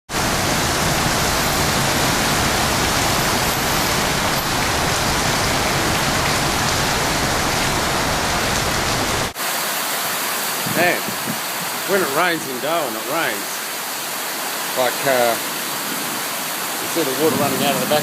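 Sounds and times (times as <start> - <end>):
heavy rain hissing: 0.1 - 18.0.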